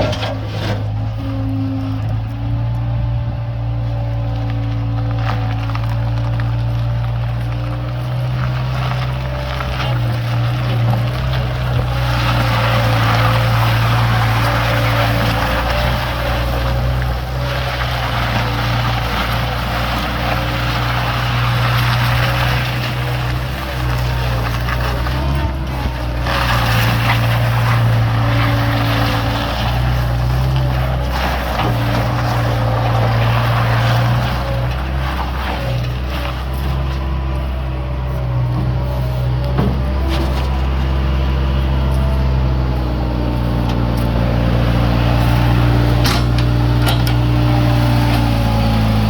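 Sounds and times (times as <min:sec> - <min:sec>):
skid steer engine running: 0:00.0 - 0:49.0.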